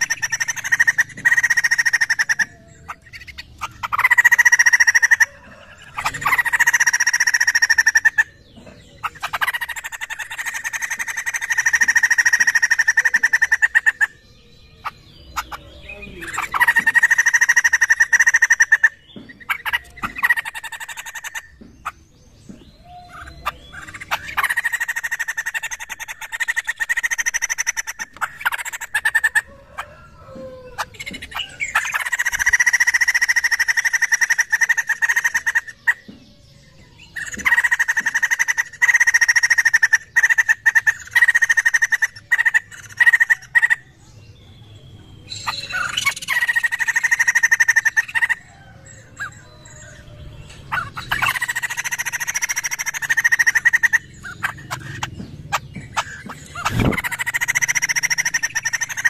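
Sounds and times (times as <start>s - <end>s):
bird chattering: 0.0s - 59.0s.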